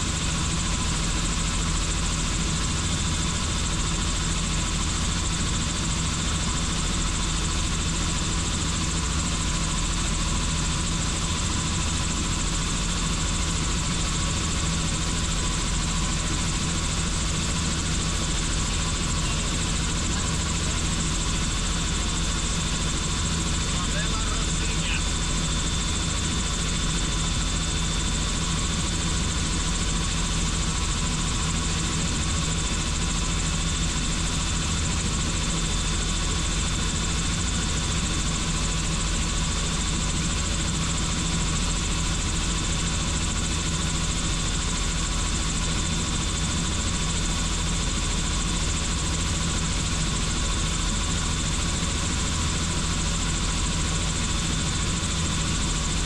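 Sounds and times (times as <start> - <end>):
helicopter rotor drone: 0.0 - 56.0
high turbine whine: 0.0 - 56.0.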